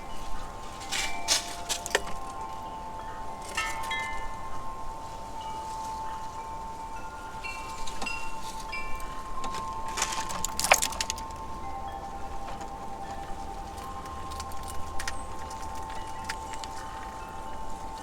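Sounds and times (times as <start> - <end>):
wind chimes ringing: 0.0 - 18.0.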